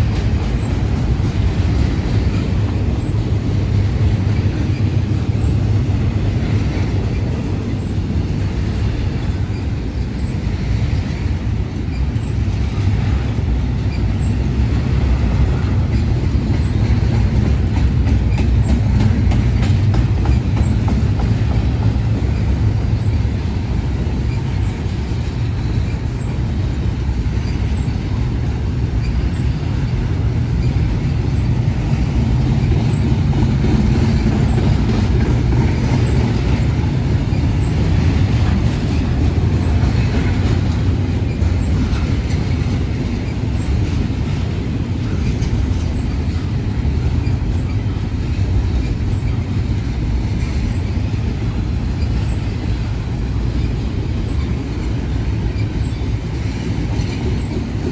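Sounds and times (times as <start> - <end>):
freight train wheels rumbling on rail: 0.0 - 57.9
wheels clicking over rail joints: 0.0 - 57.9.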